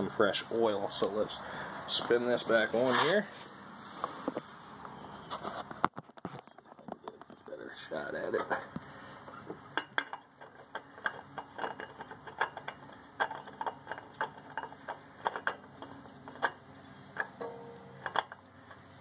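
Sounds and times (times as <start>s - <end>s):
oil filter clicks and scrapes: 1.9s - 19.0s.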